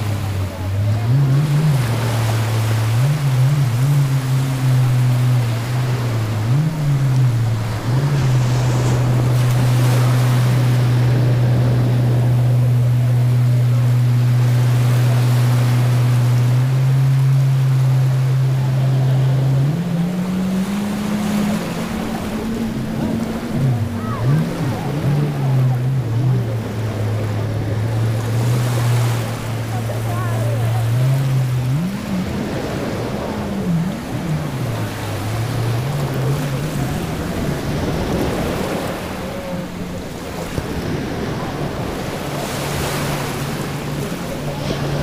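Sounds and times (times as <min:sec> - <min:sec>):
waves washing: 0:00.0 - 0:45.0
motor humming: 0:00.2 - 0:45.0.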